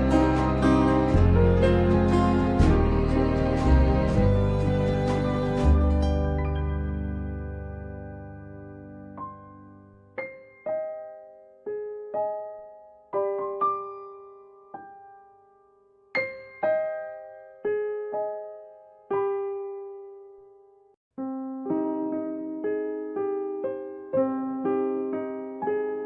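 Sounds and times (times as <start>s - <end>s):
gentle piano-like keyboard melody: 0.0s - 26.0s.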